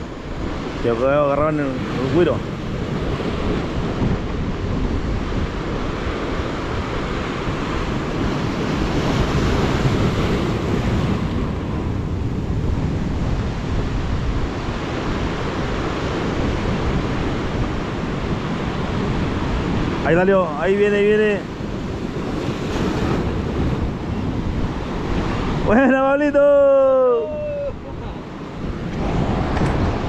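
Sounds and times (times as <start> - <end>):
surf washing on rocks: 0.0 - 30.0
wind buffeting microphone: 0.0 - 30.0.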